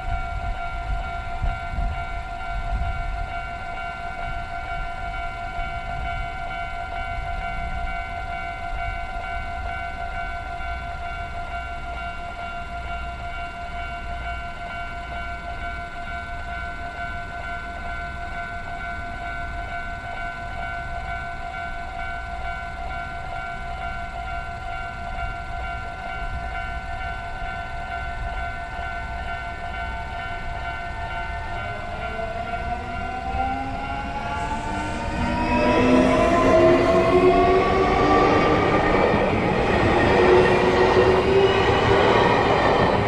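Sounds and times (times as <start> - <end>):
railroad crossing warning bell: 0.0 - 43.0
train whine: 0.0 - 43.0.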